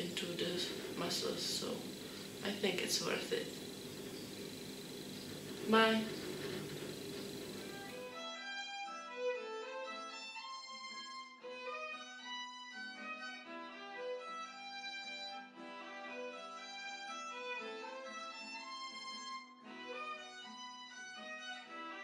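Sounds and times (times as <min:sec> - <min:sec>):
violin melody: 0:00.0 - 0:22.0.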